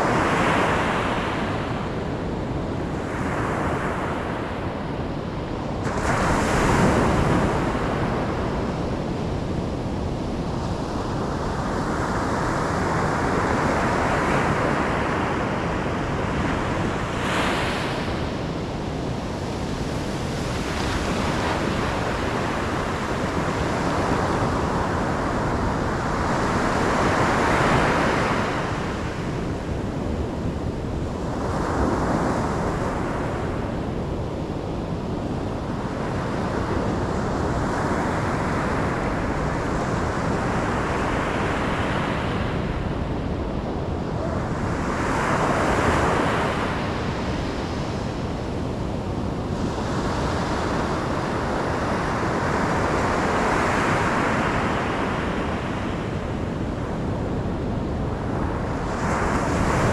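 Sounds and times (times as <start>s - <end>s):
waves breaking and washing back: 0.0s - 59.9s.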